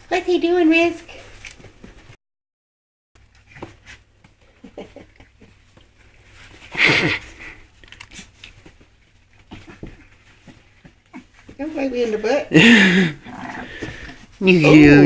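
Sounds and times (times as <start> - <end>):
puppy paws pattering: 0.0 - 2.2, 3.2 - 15.0.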